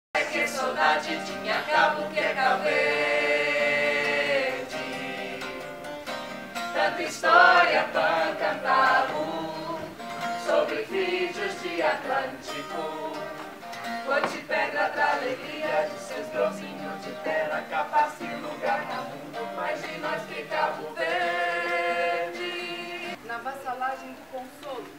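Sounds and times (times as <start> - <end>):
group of voices singing: 0.1 - 5.8, 6.6 - 23.2
guitar strumming: 0.2 - 23.2.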